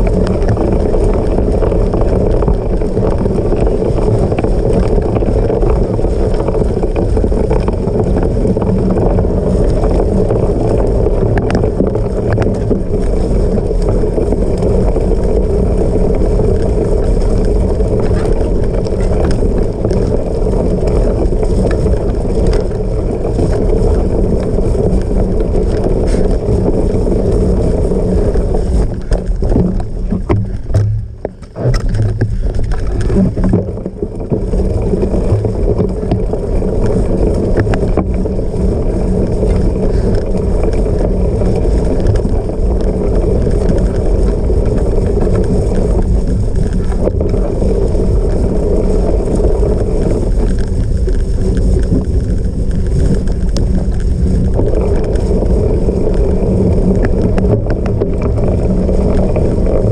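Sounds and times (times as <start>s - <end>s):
bike tyres rumbling off-road: 0.0s - 59.9s
wind rush while cycling: 0.0s - 59.9s.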